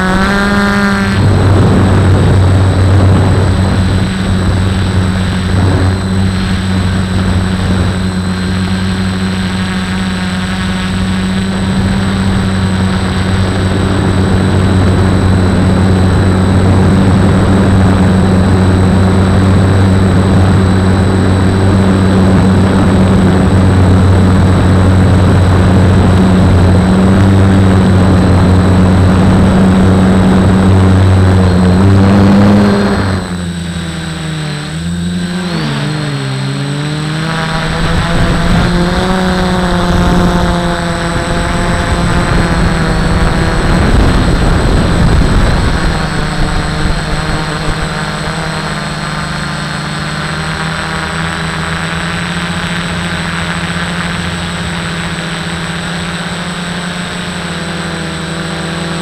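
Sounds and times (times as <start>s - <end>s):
faint high whine: 0.0s - 59.0s
quadcopter motors buzzing: 0.0s - 59.0s.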